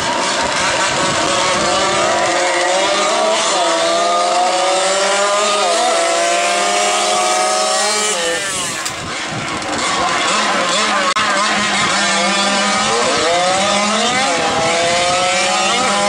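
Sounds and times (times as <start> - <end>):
moped engines revving high: 0.0 - 16.0.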